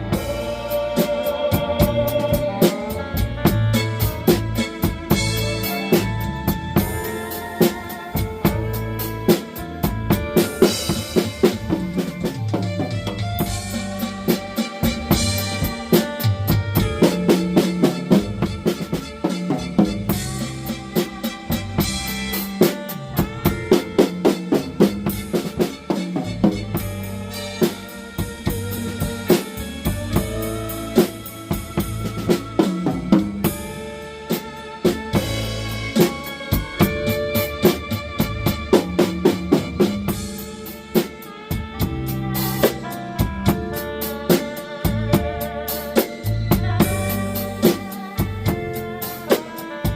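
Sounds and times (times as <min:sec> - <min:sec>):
blues backing track: 0:00.0 - 0:49.9
drum kit groove: 0:00.0 - 0:49.9.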